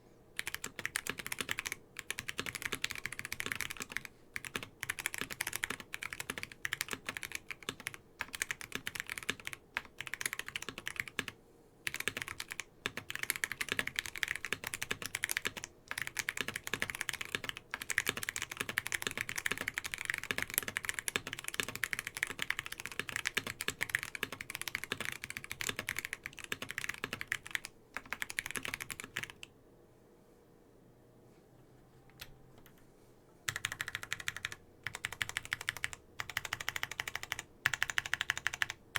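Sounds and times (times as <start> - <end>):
mechanical keyboard typing: 0.4 - 29.5, 33.5 - 38.9.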